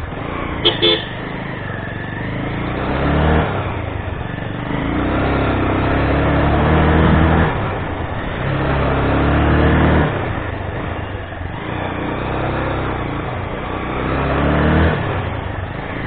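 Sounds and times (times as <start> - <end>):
motorcycle engine pulling uphill: 0.0 - 16.0.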